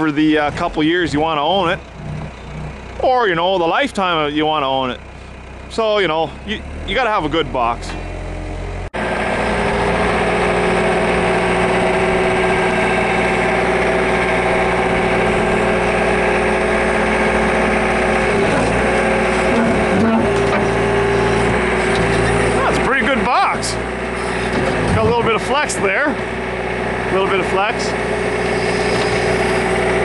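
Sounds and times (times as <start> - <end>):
loader engine running: 0.0 - 30.0.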